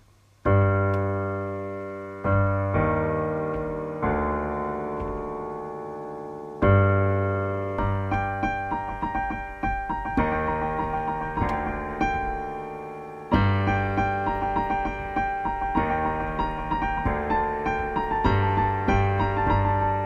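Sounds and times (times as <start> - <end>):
piano music: 0.5 - 20.0.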